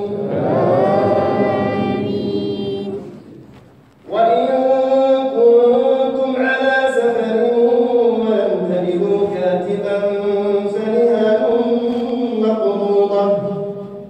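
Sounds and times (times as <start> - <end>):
man chanting recitation: 0.0 - 3.4, 4.0 - 14.0.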